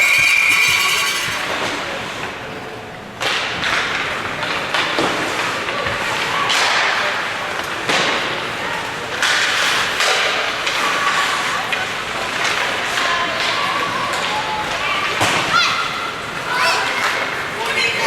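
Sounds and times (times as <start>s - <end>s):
ice arena background noise: 0.0s - 18.0s
skates sticks and puck on ice: 0.0s - 18.0s.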